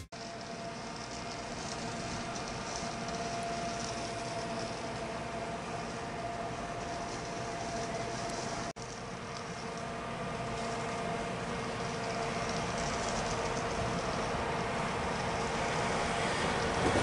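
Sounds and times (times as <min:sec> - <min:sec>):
steady hum: 0:00.0 - 0:17.0
train rumble: 0:00.0 - 0:17.0.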